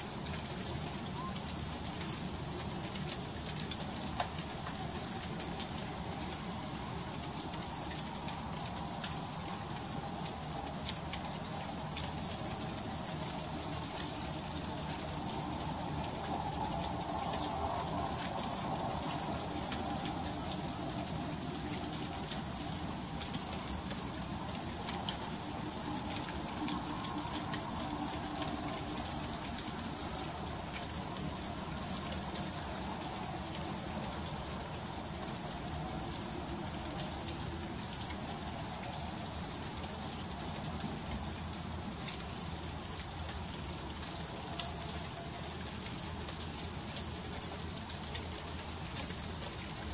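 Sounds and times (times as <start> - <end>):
freezing rain falling: 0.0 - 49.9.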